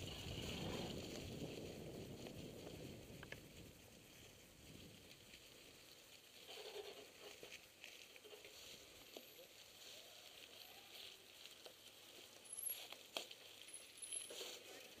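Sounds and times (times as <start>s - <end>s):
bike rolling over dry leaves: 0.0s - 15.0s.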